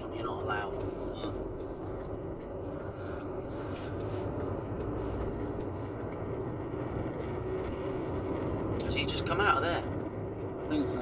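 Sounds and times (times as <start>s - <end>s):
car engine hum: 0.0s - 11.0s
tyre and road noise: 0.0s - 11.0s.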